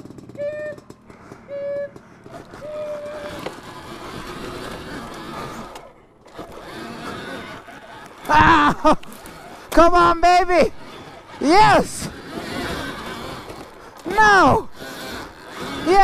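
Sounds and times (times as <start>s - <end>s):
dirt bike climbing over dirt: 0.0s - 16.0s
dirt bike engine revving: 0.0s - 16.0s.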